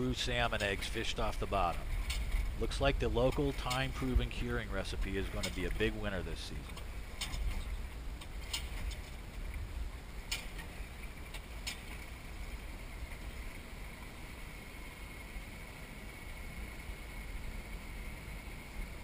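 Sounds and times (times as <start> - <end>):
wind and water rumble: 0.0 - 19.0.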